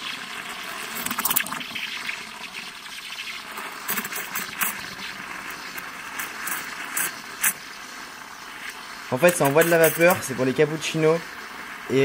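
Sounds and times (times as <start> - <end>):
steam wand hissing into milk: 0.0 - 12.0.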